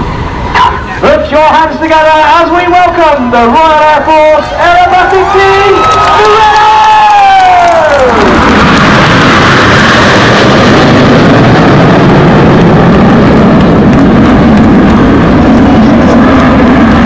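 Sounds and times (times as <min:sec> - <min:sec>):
jet roar overhead: 0:00.0 - 0:17.0.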